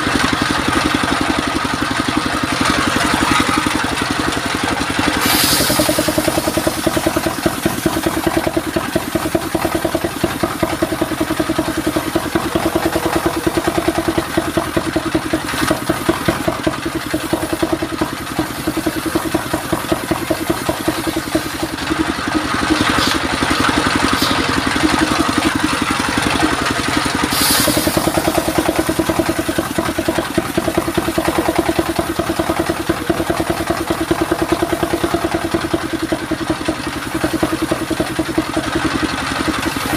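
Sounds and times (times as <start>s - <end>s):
stationary engine running: 0.0s - 39.9s
circular saw cutting wood: 2.5s - 39.9s.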